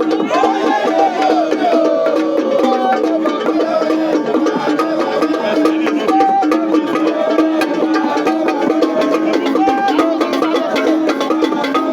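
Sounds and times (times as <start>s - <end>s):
light percussion: 0.0s - 11.9s.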